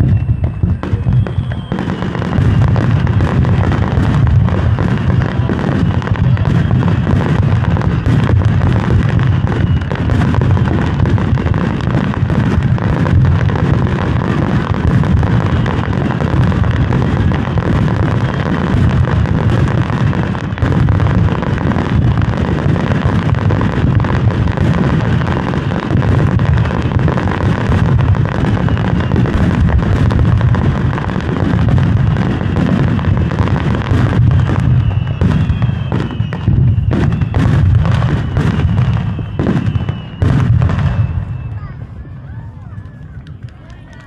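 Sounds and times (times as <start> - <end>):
firework shells bursting: 0.0 - 41.5
firework cracks: 0.0 - 44.0.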